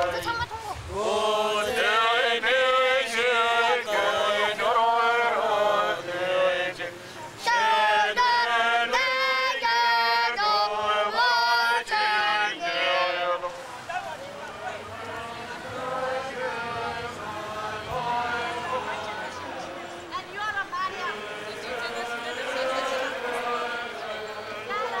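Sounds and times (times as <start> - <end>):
crowd chanting in unison: 0.0 - 25.0.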